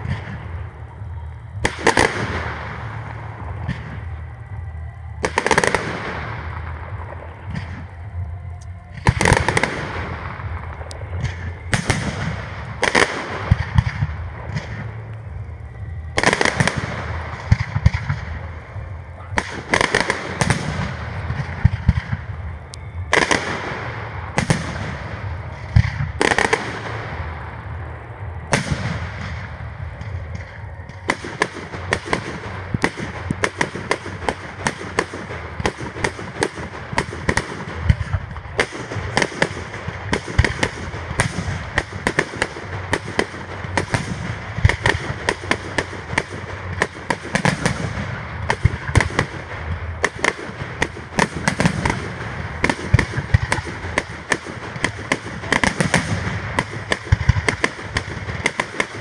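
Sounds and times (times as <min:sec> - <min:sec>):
firework crackles: 0:00.0 - 0:59.0
firework shells bursting: 0:00.0 - 0:59.0.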